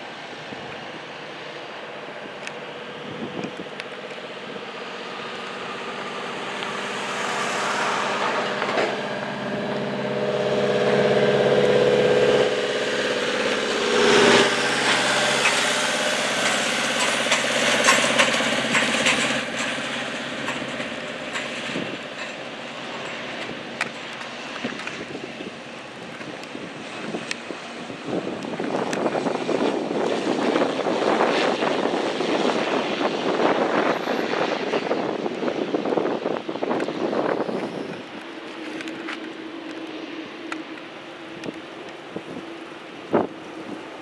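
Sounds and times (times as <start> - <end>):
aircraft engine passing by: 0.0 - 44.0.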